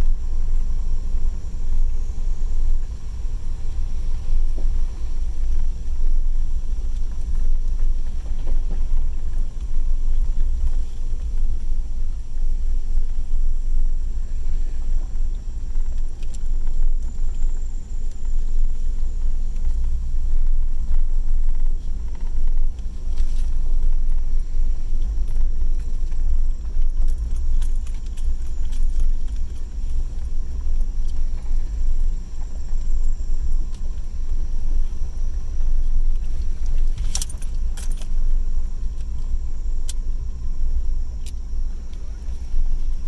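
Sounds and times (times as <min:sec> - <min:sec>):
vehicle engine and tyres rumbling: 0:00.0 - 0:43.0.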